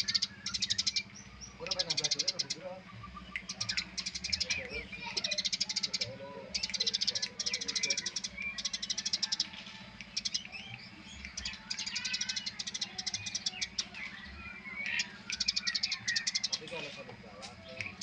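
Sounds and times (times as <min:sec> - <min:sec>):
sparrows chirping: 0:00.0 - 0:18.0
steady low hum: 0:00.0 - 0:18.0.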